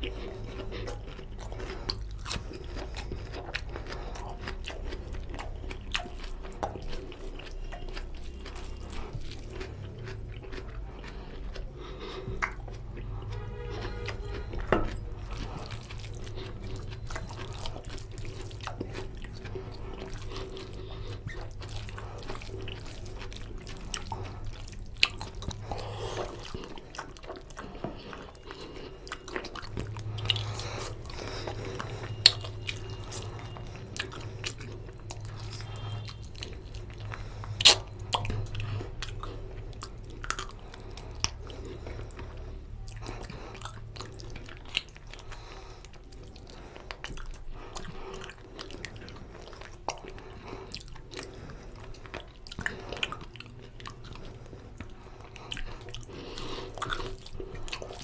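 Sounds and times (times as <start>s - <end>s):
person chewing and mouth smacks: 0.0s - 58.0s
steady low hum: 0.0s - 58.0s.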